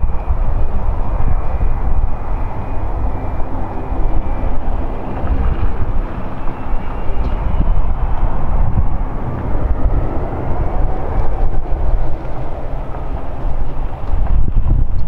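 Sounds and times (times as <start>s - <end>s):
distant jet engines rumbling: 0.0s - 15.0s
wind buffeting microphone: 0.0s - 15.0s.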